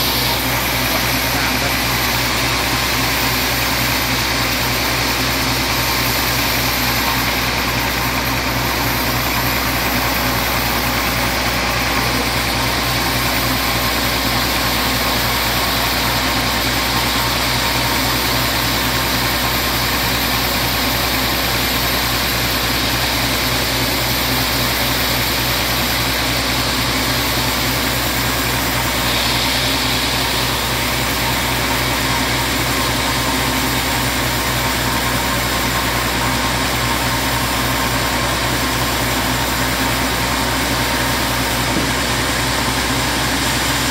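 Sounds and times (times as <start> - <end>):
band saw cutting a log: 0.0 - 43.9.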